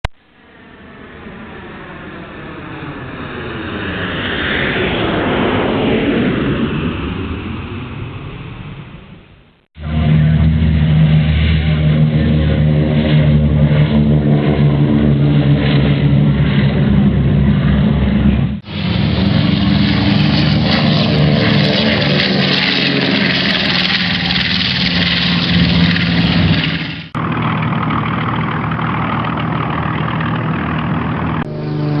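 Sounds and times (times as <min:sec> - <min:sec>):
airplane engines running: 0:00.0 - 0:32.0.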